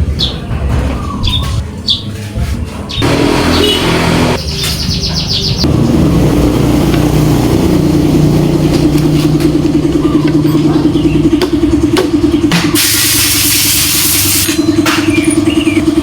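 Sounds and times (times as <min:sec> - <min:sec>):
motorcycle engine starting and idling: 0:03.0 - 0:16.0.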